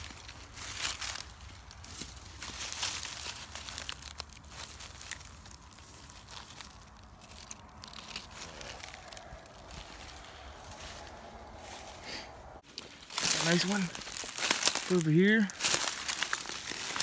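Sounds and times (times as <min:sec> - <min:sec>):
dry leaves crackling and rustling: 0:00.0 - 0:17.0.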